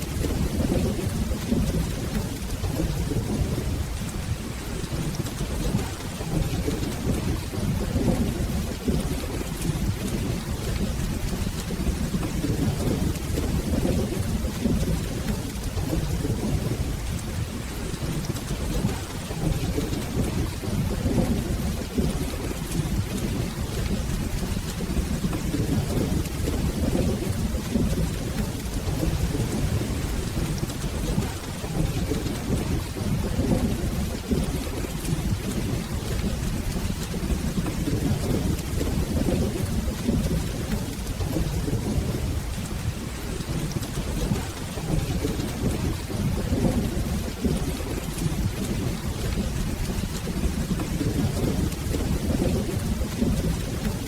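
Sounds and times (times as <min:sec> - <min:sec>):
low rumble of thunder: 0:00.0 - 0:54.0
steady rain: 0:00.0 - 0:54.0.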